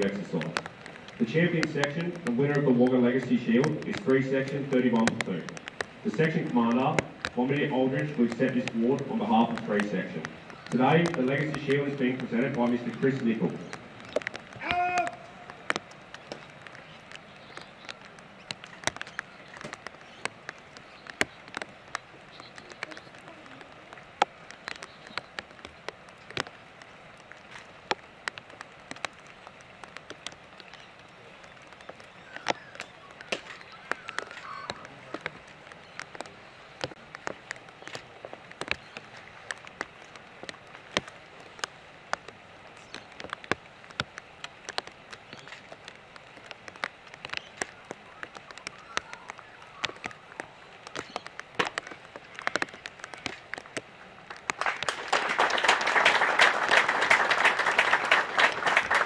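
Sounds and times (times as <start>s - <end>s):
raindrops ticking: 0.0s - 59.0s
soft rain hiss: 0.0s - 59.0s.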